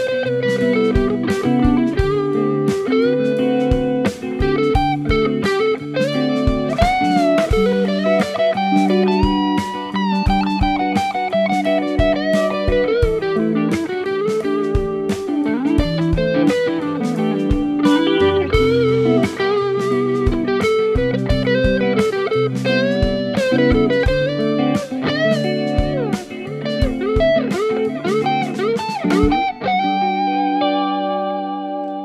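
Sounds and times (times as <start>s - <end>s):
guitar chord ringing: 0.0s - 32.0s
overdriven electric guitar lead: 0.0s - 32.0s.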